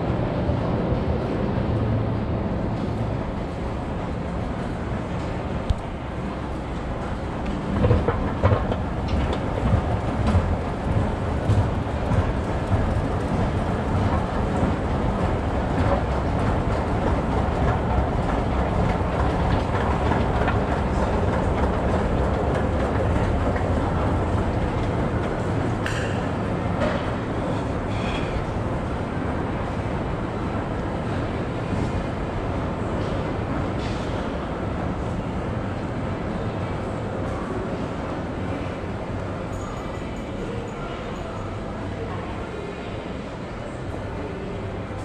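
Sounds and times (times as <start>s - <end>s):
low mechanical rumble and clatter: 0.0s - 45.0s.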